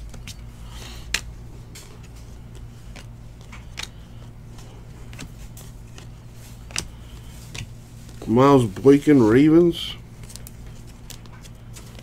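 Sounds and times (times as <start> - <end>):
cards sliding and ticking: 0.0 - 12.0
steady low hum: 0.0 - 12.0.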